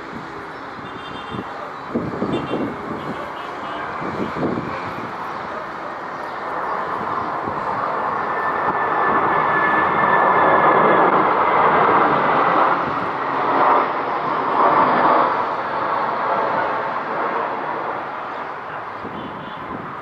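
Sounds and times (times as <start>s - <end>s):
jet engines rushing with whine: 0.0s - 20.0s.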